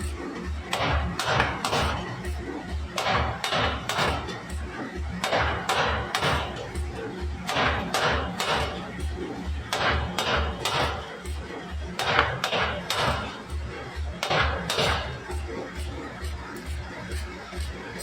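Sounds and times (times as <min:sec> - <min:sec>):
hammer striking metal: 0:00.0 - 0:16.0
background music with low beat: 0:00.0 - 0:18.0.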